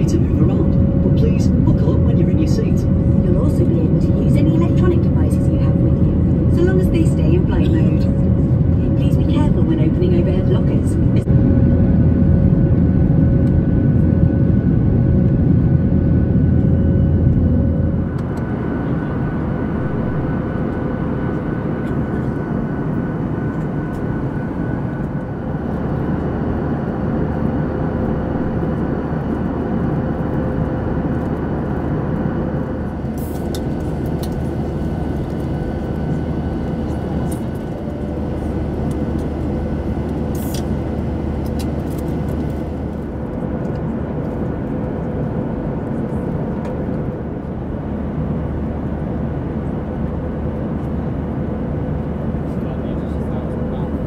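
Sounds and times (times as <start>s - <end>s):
airplane cabin engine rush: 0.0s - 54.0s.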